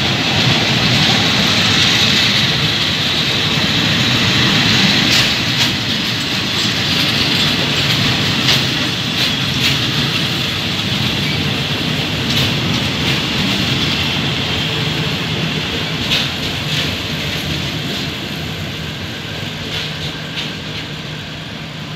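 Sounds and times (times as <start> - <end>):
wheels clacking over rail joints: 0.0 - 21.1
train wheels rumbling on rail: 0.0 - 21.9.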